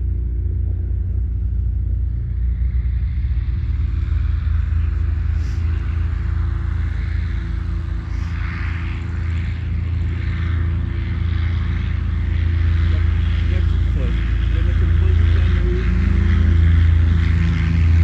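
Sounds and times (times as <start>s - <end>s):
propeller plane engine rumble: 0.0s - 18.0s.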